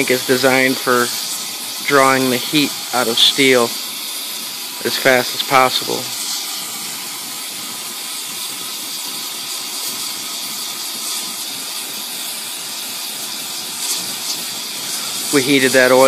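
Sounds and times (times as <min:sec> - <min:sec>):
torch flame hissing: 0:00.0 - 0:16.0.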